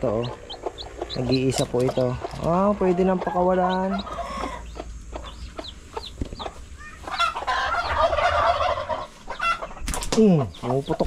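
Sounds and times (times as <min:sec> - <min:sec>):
chick peeping: 0:00.0 - 0:11.0
chickens clucking: 0:00.0 - 0:11.0.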